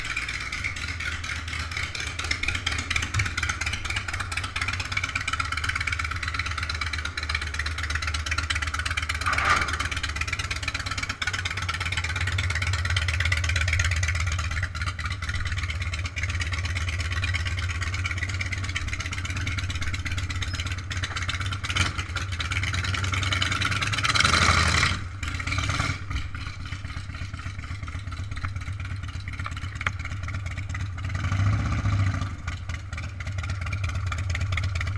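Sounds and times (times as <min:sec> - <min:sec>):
bicycle road noise: 0:00.0 - 0:34.9.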